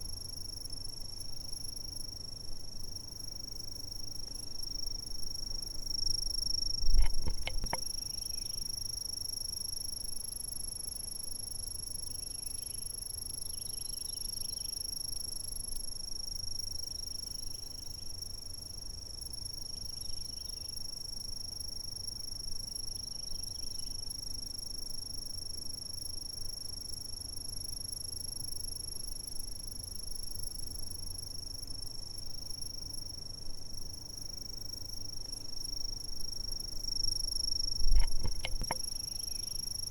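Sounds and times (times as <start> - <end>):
insects trilling: 0.0 - 15.9, 16.6 - 39.9.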